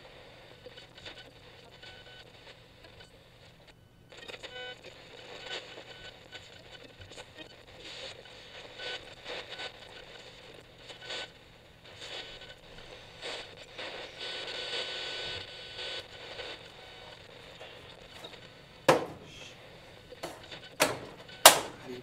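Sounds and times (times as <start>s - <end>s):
radio static hiss and crackles: 0.0s - 22.0s.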